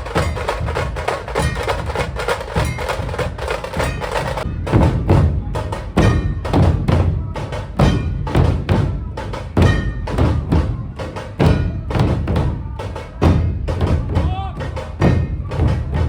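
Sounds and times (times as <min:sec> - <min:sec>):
booming dhol drum beats: 0:00.0 - 0:16.0
fast tasha drum strokes: 0:00.0 - 0:16.0.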